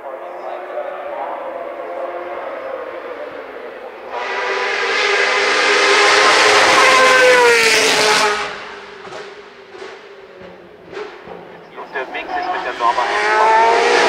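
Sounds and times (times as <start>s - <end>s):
race car passing: 0.0s - 14.0s.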